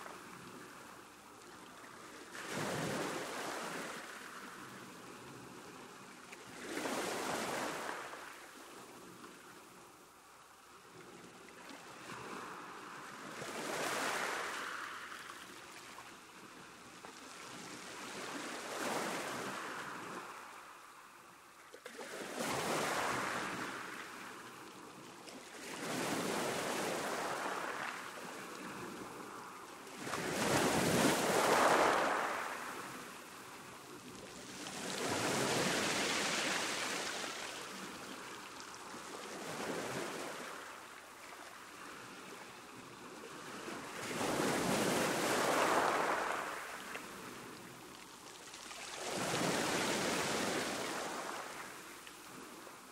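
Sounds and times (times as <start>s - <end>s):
sea waves breaking on shore: 0.0s - 10.2s, 10.9s - 52.9s.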